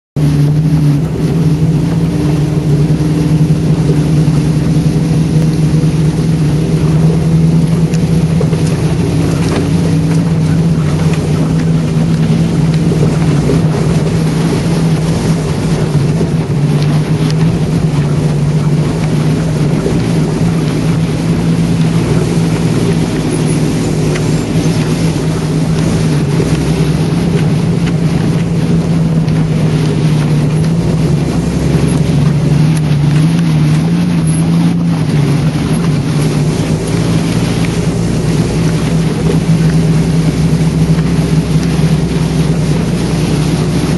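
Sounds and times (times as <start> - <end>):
rattles and clicks in cab: 0.2 - 43.9
vehicle engine low drone: 0.2 - 43.9.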